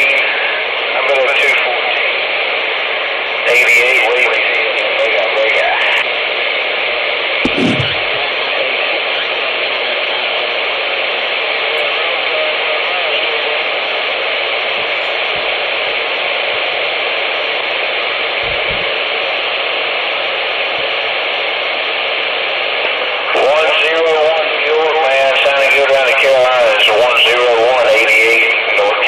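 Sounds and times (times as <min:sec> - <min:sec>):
radio static hiss: 0:00.0 - 0:02.5, 0:03.2 - 0:06.4, 0:07.5 - 0:19.5, 0:22.3 - 0:29.0.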